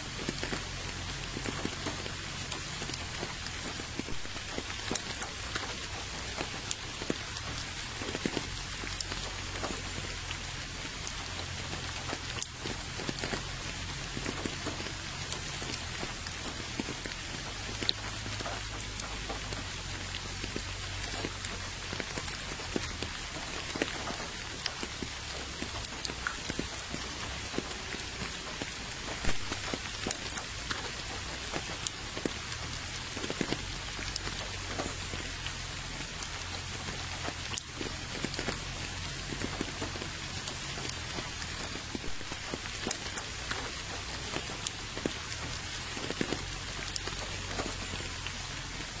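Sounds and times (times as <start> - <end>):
rain falling into a puddle: 0.0 - 49.0.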